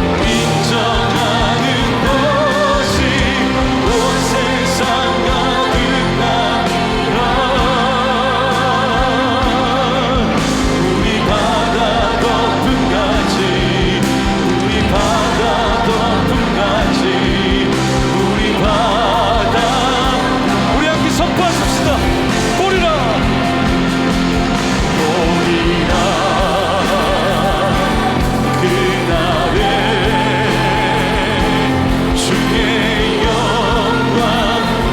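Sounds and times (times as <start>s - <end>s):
band playing worship music: 0.0s - 34.9s
group singing: 0.0s - 34.9s.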